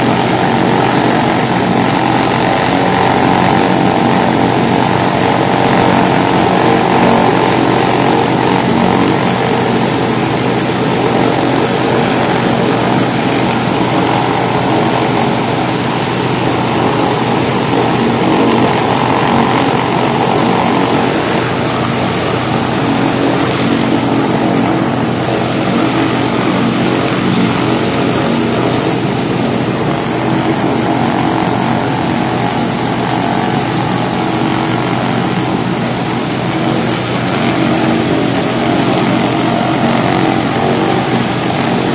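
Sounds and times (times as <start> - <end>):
propeller aircraft engines running: 0.0 - 41.9.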